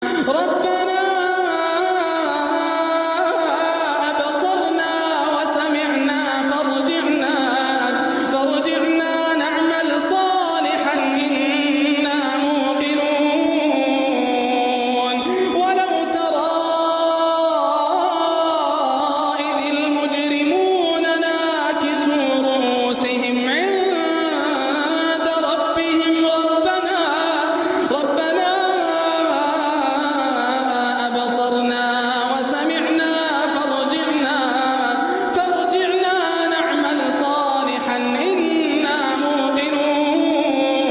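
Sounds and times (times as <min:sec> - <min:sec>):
person chanting melodically: 0:00.0 - 0:40.9.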